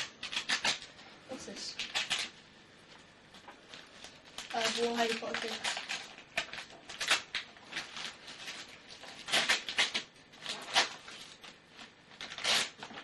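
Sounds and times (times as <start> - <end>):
wrapping paper rustling and tearing: 0.0 - 13.0.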